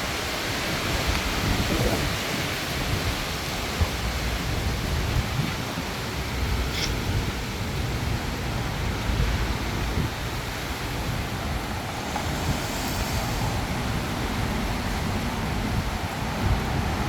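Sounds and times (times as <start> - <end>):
strong wind blowing: 0.0 - 17.0
wind buffeting microphone: 0.0 - 17.0.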